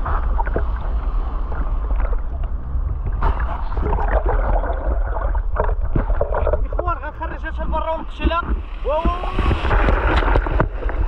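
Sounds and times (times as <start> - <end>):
muffled underwater gurgling: 0.0 - 11.0
rush of water noise: 0.0 - 11.0
steady low rumble: 0.0 - 11.0.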